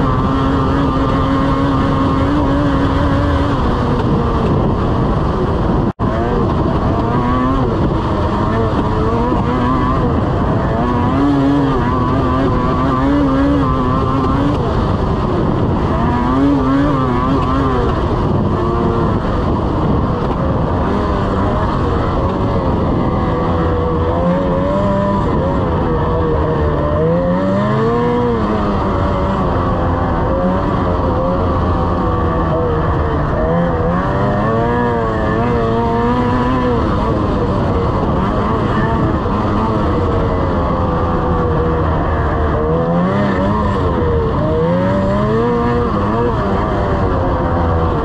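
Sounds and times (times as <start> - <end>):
snowmobile engine running: 0.0 - 48.0.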